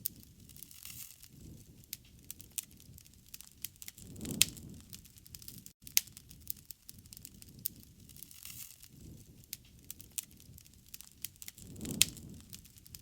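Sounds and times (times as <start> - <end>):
fire pops and snaps: 0.0 - 13.0
low rumble of burning: 0.0 - 13.0.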